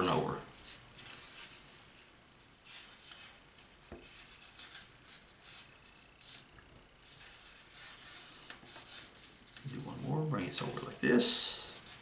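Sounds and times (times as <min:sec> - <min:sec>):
cord rustling and brushing: 0:00.5 - 0:12.0.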